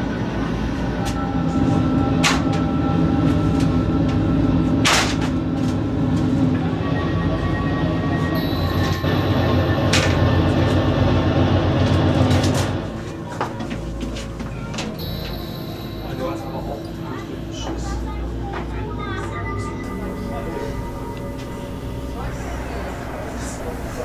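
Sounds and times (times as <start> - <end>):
mechanical rumble and hum: 0.0 - 24.0.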